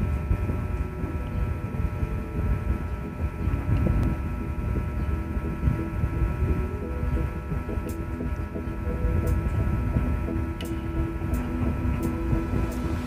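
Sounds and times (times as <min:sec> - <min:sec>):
karaoke backing music: 0:00.0 - 0:13.0
low rumbling microphone noise: 0:00.0 - 0:13.0.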